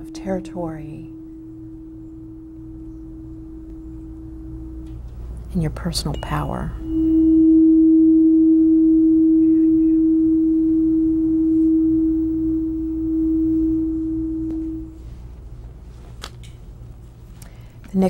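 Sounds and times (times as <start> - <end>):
tuning fork tone: 0.0 - 15.4.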